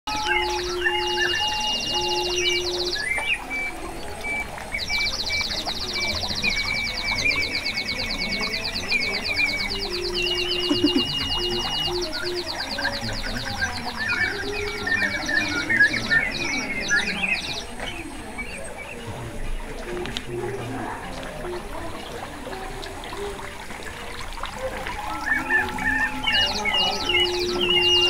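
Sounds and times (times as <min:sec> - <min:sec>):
running water splashing: 0:00.1 - 0:28.0
water whistles imitating birdsong: 0:00.1 - 0:28.0.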